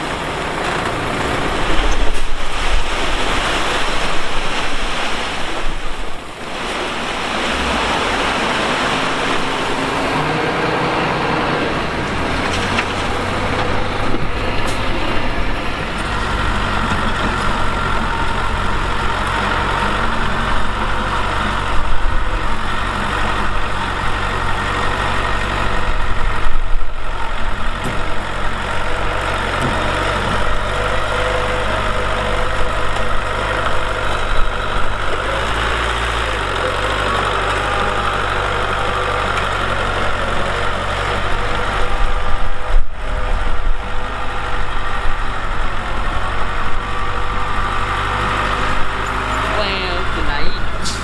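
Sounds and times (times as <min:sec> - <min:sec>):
diesel machinery engine running: 0:00.0 - 0:51.0.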